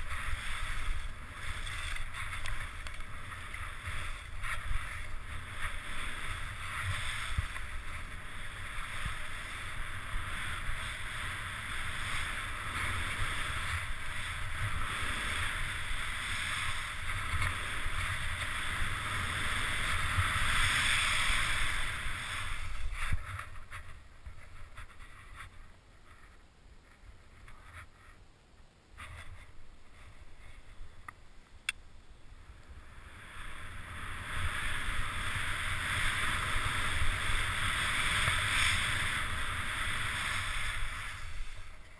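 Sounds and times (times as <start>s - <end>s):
skis scraping over snow: 0.0s - 28.2s, 32.7s - 41.9s.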